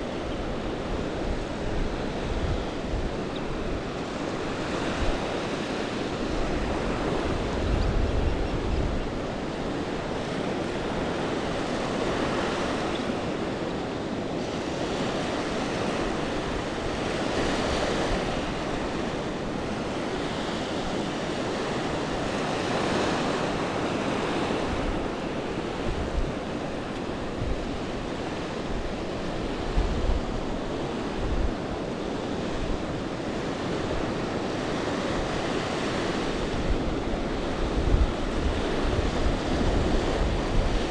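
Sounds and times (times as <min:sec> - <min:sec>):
surf washing onto beach: 0:00.0 - 0:40.9
wind buffeting microphone: 0:00.0 - 0:40.9.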